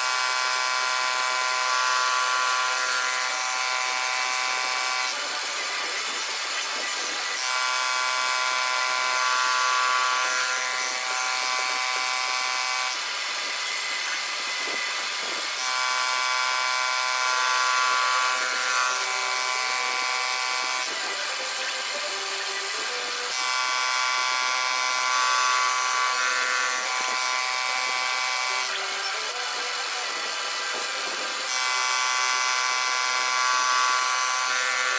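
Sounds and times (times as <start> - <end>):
milling cutter whining: 0.0 - 34.9.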